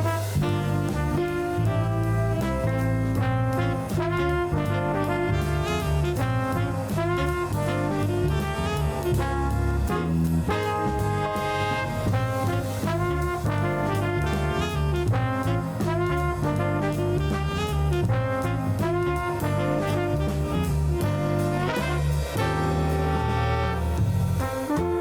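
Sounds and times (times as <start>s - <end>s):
upbeat jazz with brass: 0.0s - 25.0s.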